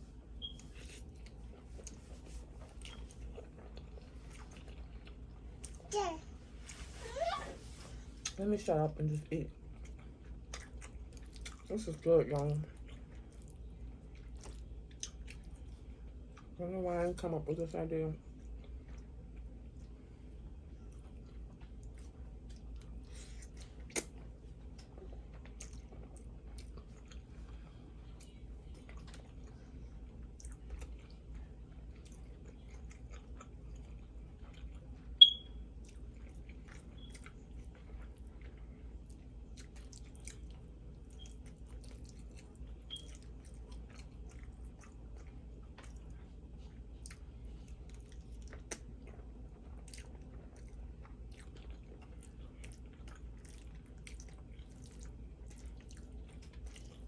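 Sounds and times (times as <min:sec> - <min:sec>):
low steady hum: 0:00.0 - 0:57.0
person chewing: 0:00.5 - 0:05.8, 0:09.7 - 0:11.7, 0:12.7 - 0:16.5, 0:20.9 - 0:29.6, 0:30.2 - 0:57.0.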